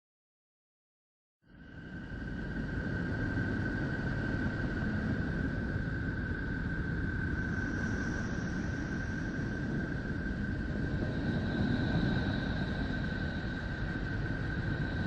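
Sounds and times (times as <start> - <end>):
rumbling hiss: 1.7 - 15.0.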